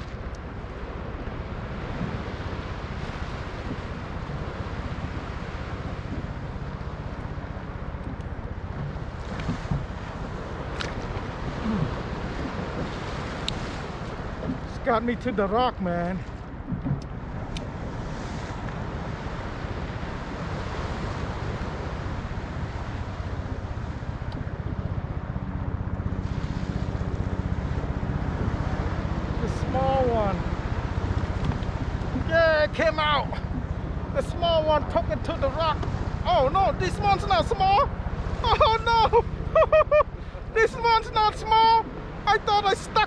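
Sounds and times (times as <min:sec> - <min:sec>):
water washing around kayak: 0:00.0 - 0:43.0
wind buffeting microphone: 0:00.0 - 0:43.0.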